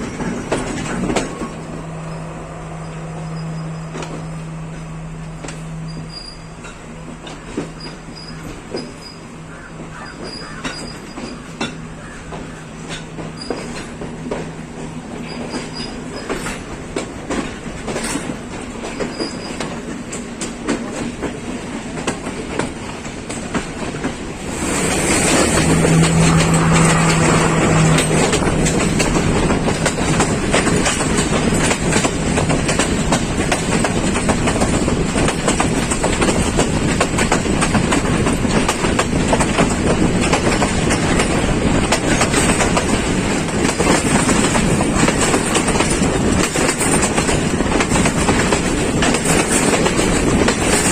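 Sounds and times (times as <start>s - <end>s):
train wheels clattering over rails: 0.0s - 50.9s.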